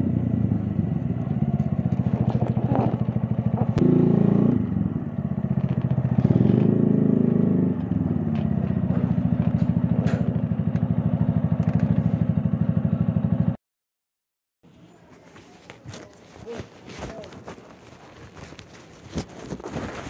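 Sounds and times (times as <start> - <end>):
motorcycle engine putting along: 0.0 - 13.6, 15.1 - 20.0.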